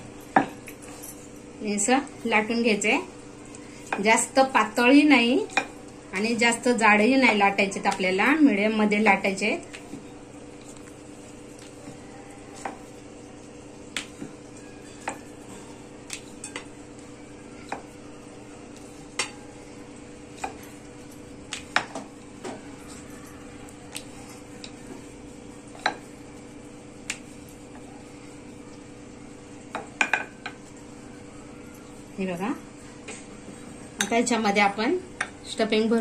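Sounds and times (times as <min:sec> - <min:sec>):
rolling pin rolling dough: 0:00.3 - 0:32.4.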